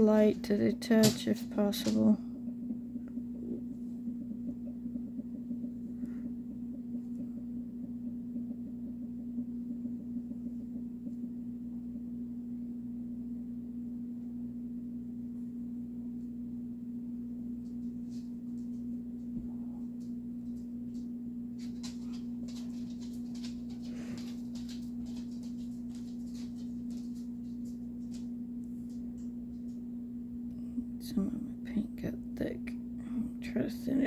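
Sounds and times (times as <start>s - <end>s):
faint ticks and scratches: 0.0s - 12.3s, 17.4s - 32.8s
low electrical hum: 0.0s - 34.0s.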